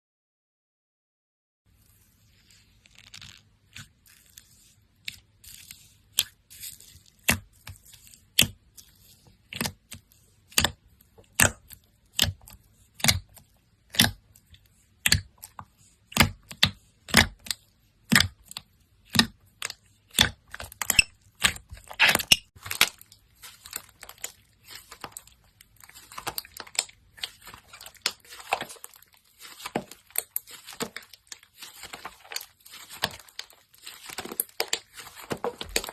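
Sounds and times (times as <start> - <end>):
slime popping and crackling: 2.8 - 35.9.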